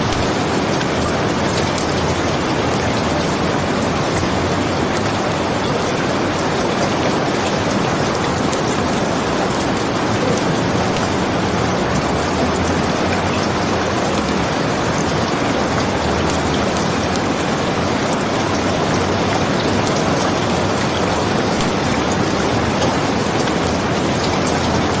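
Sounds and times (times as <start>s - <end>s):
steady rain hiss: 0.0s - 25.0s.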